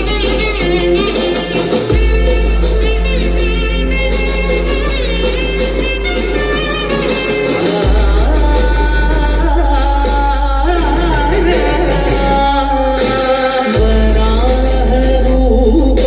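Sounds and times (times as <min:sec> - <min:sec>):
heavy deep bass: 0:00.0 - 0:16.0
song with singing over sound system: 0:00.0 - 0:16.0.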